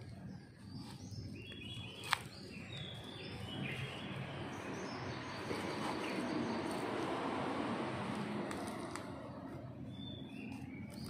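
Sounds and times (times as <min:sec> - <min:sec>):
birds chirping: 0:00.0 - 0:11.0
rushing background noise: 0:00.0 - 0:11.0.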